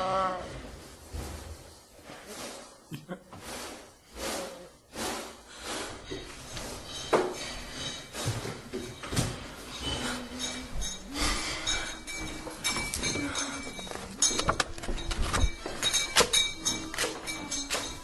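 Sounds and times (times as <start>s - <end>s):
hard objects clattering: 3.5s - 18.0s.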